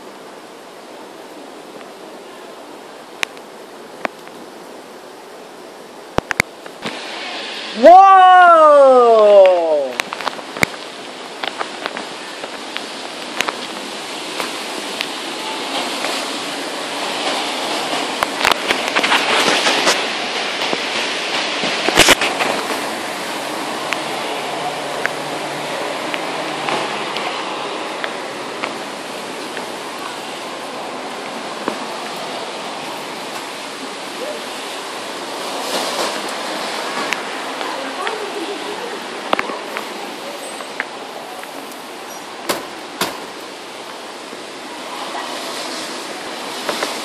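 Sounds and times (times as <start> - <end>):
heavy rain hissing: 0.0 - 47.0.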